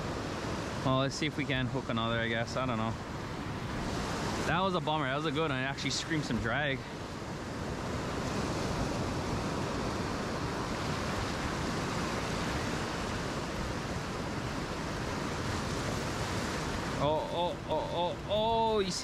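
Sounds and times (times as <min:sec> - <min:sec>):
ocean surf washing ashore: 0:00.0 - 0:19.0.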